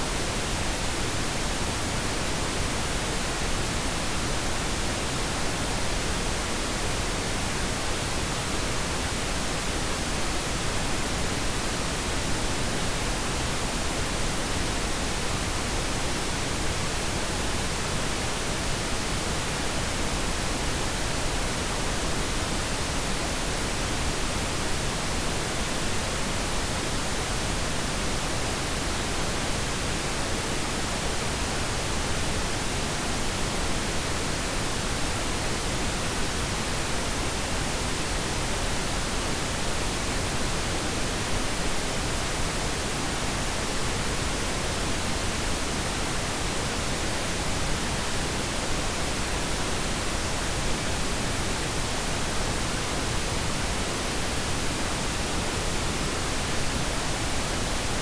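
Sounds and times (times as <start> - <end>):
steady pink noise: 0.0 - 58.0.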